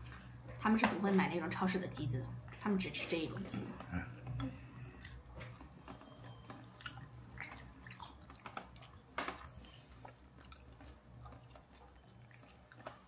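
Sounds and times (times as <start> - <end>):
low steady hum: 0.0 - 13.0
people chewing and eating: 0.0 - 13.0.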